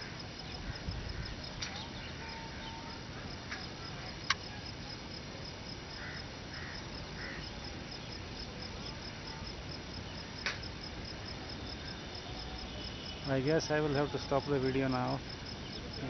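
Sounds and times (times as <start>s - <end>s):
insect chirping: 0.0s - 16.0s
steady field hiss: 0.0s - 16.0s.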